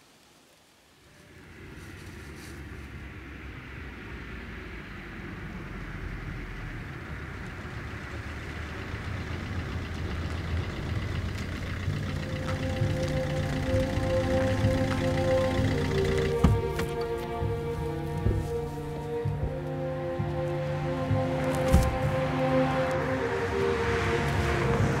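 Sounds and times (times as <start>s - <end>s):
car engine approaching: 1.0s - 25.0s.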